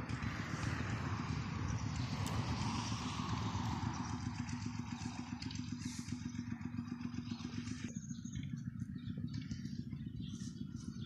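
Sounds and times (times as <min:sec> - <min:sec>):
motor running: 0:00.0 - 0:11.0.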